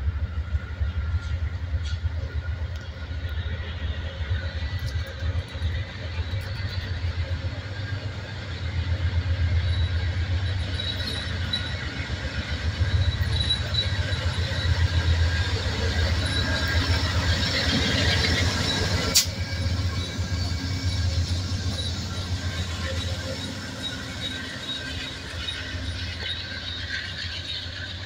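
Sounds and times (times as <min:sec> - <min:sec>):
diesel locomotive engine rumble: 0:00.0 - 0:28.0
wheels rattling on rail: 0:00.0 - 0:28.0
faint high wheel squeal: 0:00.1 - 0:28.0.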